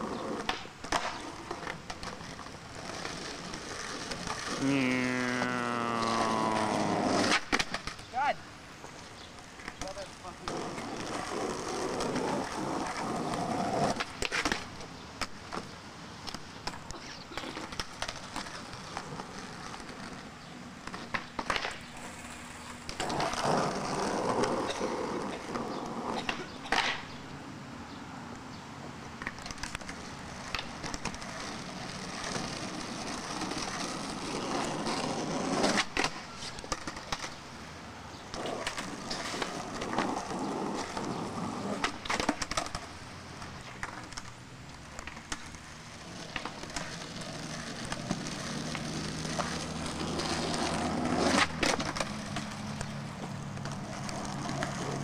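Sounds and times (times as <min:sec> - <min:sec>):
skateboard clacking on ground: 0:00.0 - 0:27.2, 0:29.2 - 0:37.5, 0:38.2 - 0:55.0
skateboard wheels rolling on concrete: 0:00.0 - 0:55.0.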